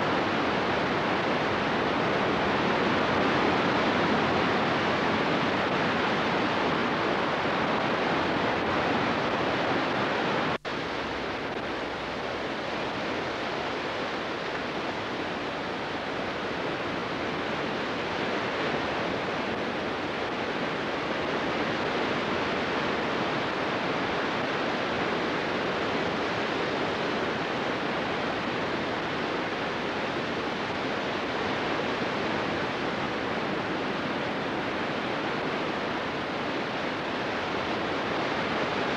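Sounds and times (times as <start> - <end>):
sea surf rushing: 0.0 - 38.9.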